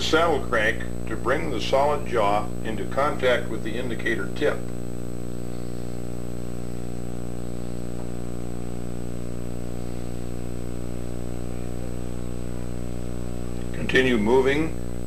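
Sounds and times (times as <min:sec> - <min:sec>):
electrical hum with high whine: 0:00.0 - 0:15.0.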